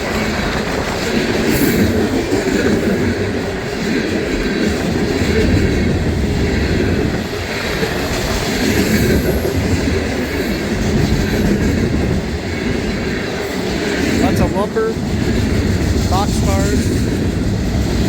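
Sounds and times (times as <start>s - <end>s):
steel train wheels on rails: 0.0s - 18.0s.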